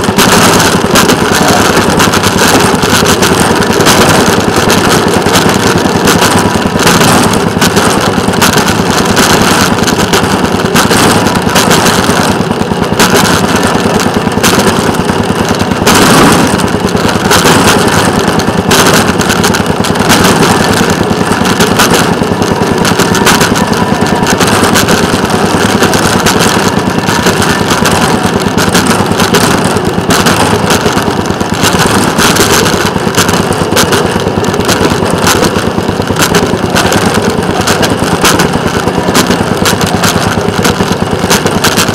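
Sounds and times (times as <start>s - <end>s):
small engine rattling: 0.0s - 41.9s.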